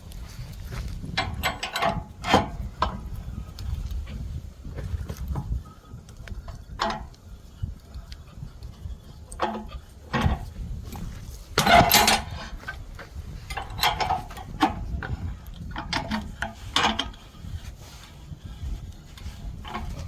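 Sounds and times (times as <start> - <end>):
wood and metal knocks and scraping: 0.0 - 7.9, 8.5 - 20.0.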